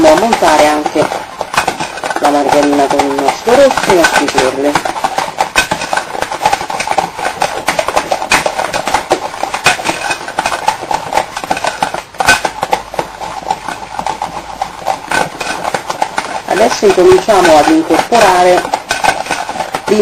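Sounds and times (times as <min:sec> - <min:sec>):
beaters ticking against glass: 0:00.0 - 0:20.0.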